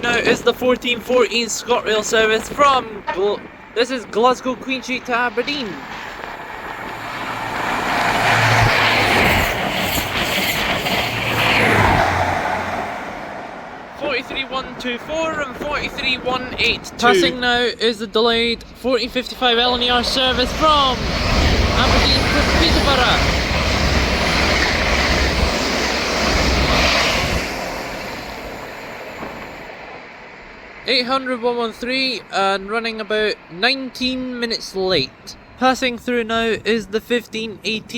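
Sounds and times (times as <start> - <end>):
train wheels rushing on rails: 0.0 - 17.2, 19.2 - 35.2.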